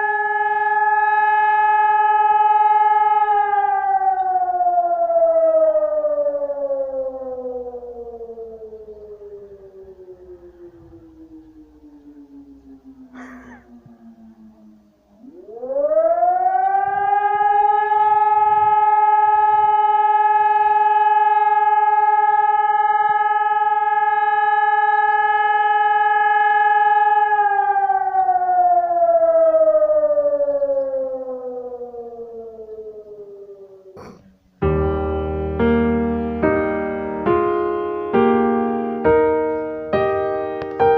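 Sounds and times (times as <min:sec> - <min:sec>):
fire alarm siren: 0:00.0 - 0:34.0, 0:34.6 - 0:40.9.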